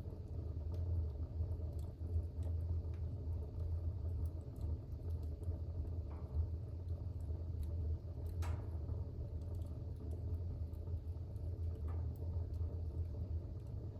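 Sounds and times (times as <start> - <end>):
fire crackling in fireplace: 0.0 - 13.9.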